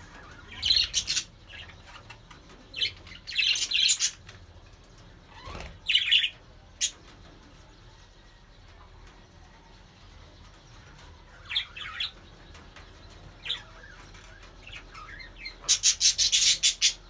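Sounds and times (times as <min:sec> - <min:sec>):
budgerigars chirping and warbling: 0:00.0 - 0:07.9, 0:08.8 - 0:17.0.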